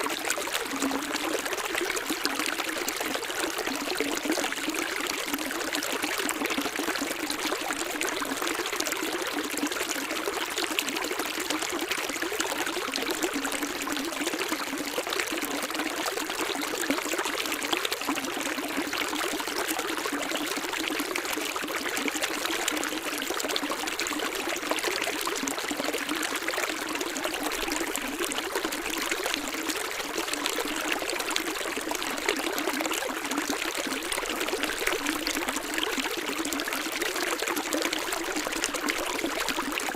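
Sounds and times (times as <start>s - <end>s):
stream running water: 0.0s - 39.9s.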